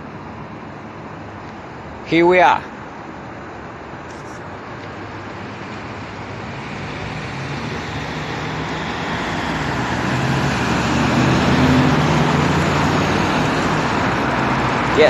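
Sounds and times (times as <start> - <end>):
road traffic noise: 0.0 - 15.0
vehicle engine low drone: 2.7 - 15.0.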